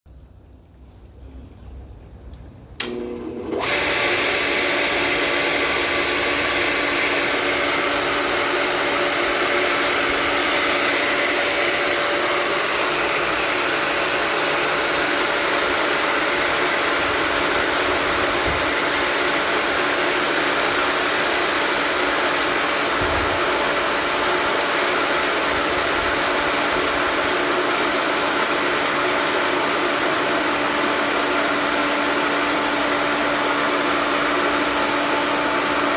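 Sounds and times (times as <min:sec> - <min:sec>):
pool pump motor humming: 0:02.7 - 0:35.9.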